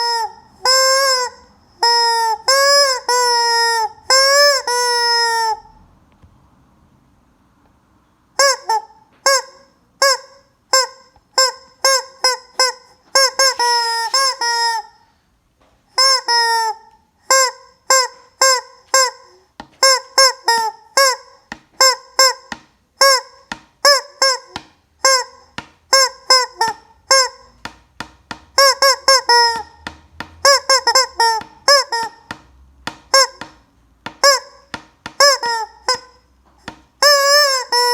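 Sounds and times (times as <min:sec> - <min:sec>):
rubber chicken toy honking: 0:00.0 - 0:05.8, 0:08.4 - 0:15.0, 0:15.9 - 0:37.9.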